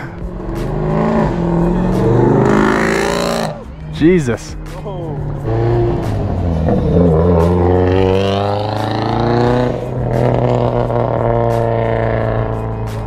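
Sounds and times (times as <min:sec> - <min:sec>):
car engine accelerating hard: 0:00.0 - 0:03.9, 0:05.2 - 0:13.0.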